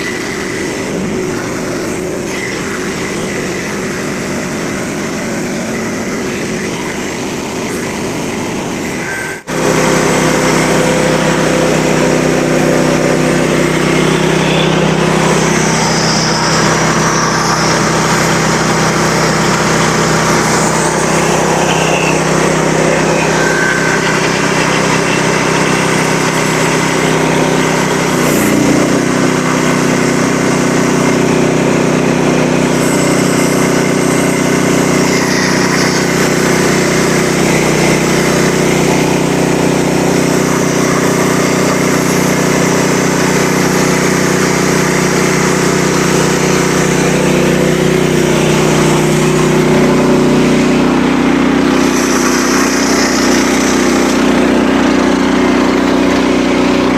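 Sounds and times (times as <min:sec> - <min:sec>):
small gasoline engine running: 0:00.0 - 0:56.9.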